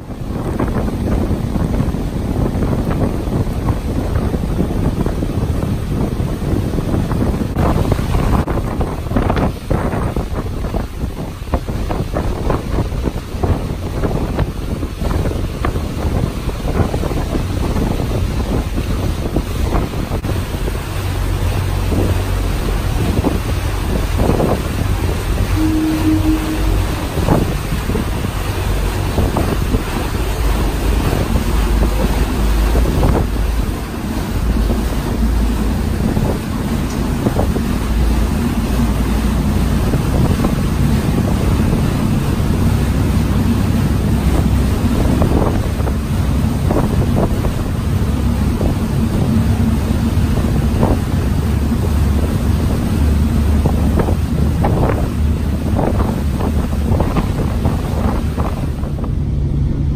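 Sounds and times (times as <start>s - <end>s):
ferry engine drone: 0.0s - 59.9s
water rushing and splashing: 0.0s - 59.9s
wind buffeting microphone: 0.0s - 59.9s.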